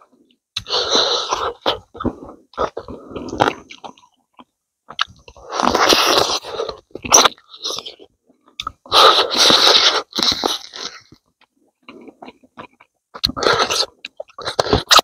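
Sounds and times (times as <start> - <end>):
man chewing food: 0.1 - 15.0.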